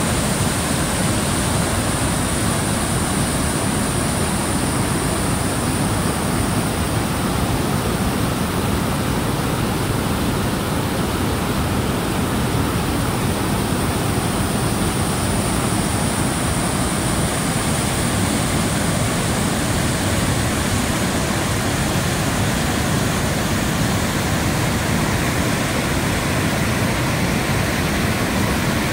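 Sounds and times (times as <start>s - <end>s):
whitewater rushing: 0.0s - 28.9s.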